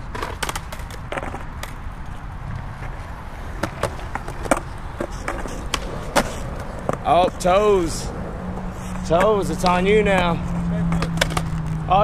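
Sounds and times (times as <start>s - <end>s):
skateboard clacks: 0.0s - 1.9s, 2.8s - 8.2s, 9.1s - 11.8s
skateboard wheels rolling on concrete: 0.0s - 12.0s.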